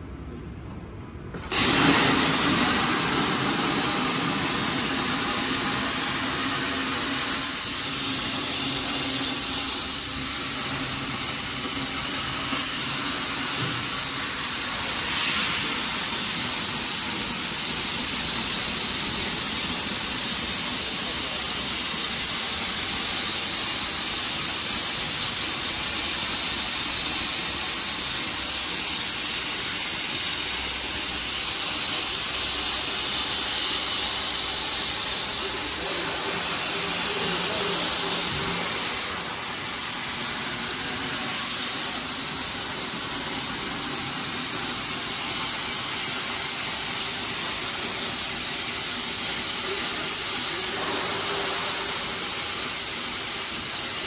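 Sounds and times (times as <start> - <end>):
plasma torch hissing: 1.4 - 54.0.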